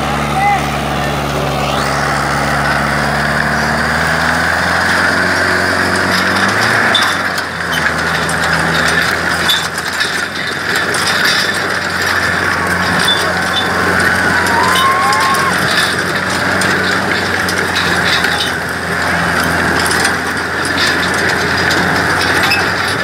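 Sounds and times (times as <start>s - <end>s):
harrow discs rattling and grinding: 0.0s - 23.0s
tractor diesel engine under load: 0.0s - 23.0s.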